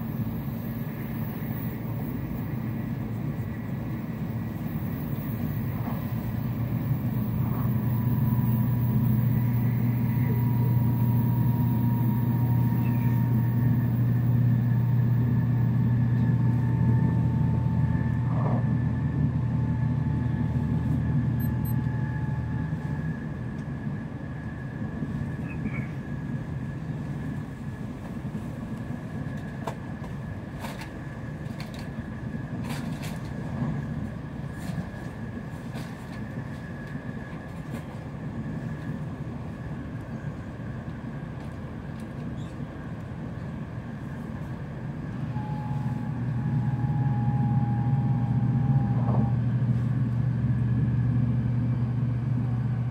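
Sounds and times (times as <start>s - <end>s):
train running rumble: 0.0s - 52.9s.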